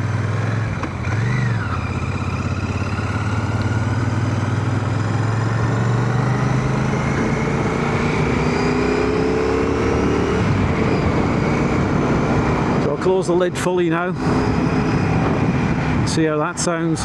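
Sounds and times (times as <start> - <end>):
motorcycle engine accelerating: 0.0 - 16.1.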